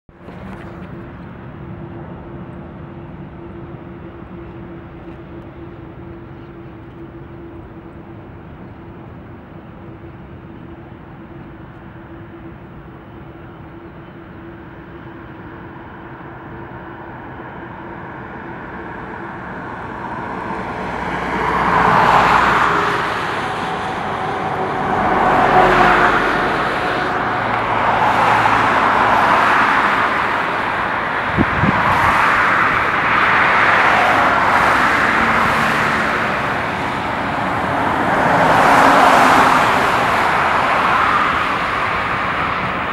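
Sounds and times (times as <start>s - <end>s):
jet engines whining and roaring: 0.1s - 42.9s.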